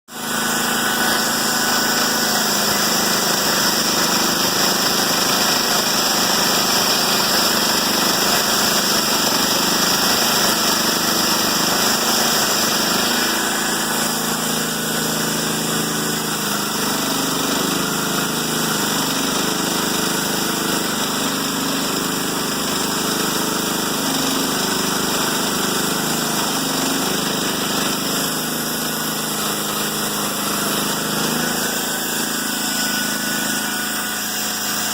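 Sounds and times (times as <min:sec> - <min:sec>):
chainsaw engine running: 0:00.1 - 0:34.9.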